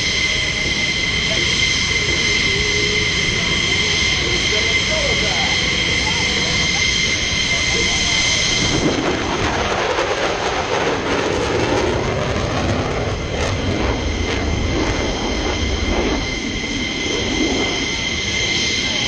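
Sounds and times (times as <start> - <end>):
high engine whine: 0.0 - 19.0
jet engine roar: 0.0 - 19.0.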